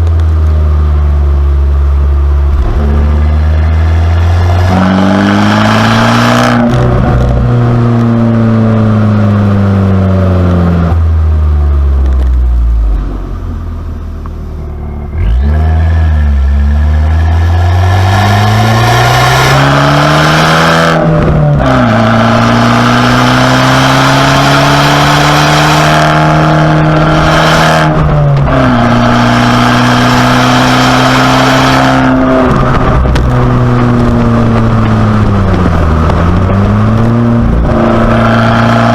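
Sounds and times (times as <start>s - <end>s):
car engine revving through gears: 2.1s - 11.0s, 15.0s - 38.9s.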